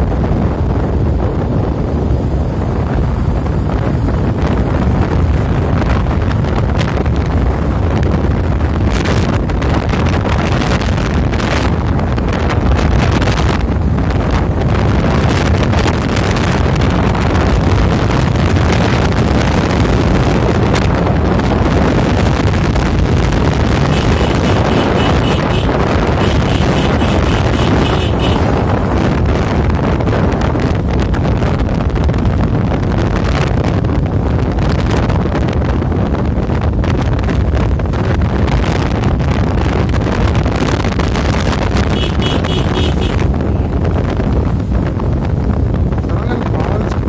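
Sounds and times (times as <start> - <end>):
motorcycle engine running: 0.0 - 32.8, 38.6 - 46.0
wind rushing over microphone: 0.0 - 47.0.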